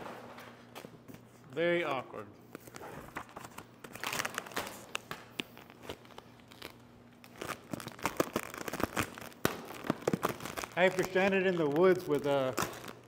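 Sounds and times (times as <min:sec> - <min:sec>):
vinyl sheet crinkling: 0:02.5 - 0:13.0.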